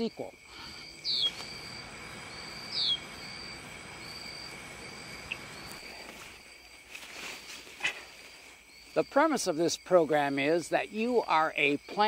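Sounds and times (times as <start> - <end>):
insect trill: 0.0 - 12.0.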